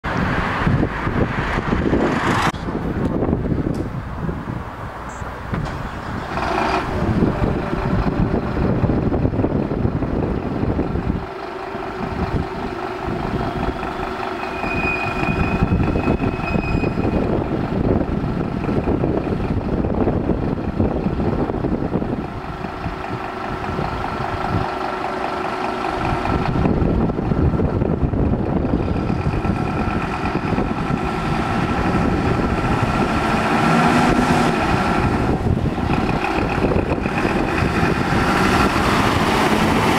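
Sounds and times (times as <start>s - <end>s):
diesel engine idling: 2.6s - 39.9s.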